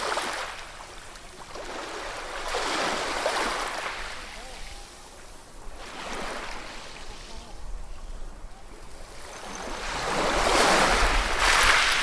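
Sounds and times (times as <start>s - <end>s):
ocean waves washing ashore: 0.0s - 12.0s.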